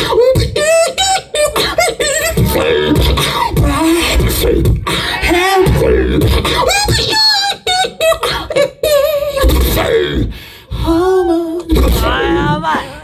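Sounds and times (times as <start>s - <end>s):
person beatboxing: 0.0s - 11.0s, 11.6s - 12.9s.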